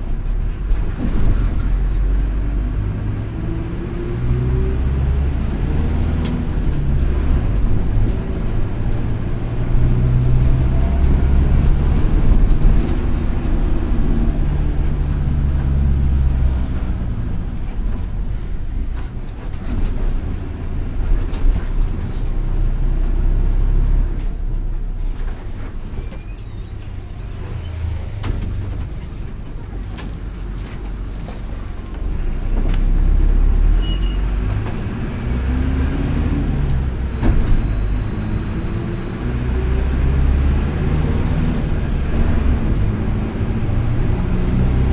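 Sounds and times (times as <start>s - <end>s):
bus diesel engine pulling: 0.0s - 44.9s.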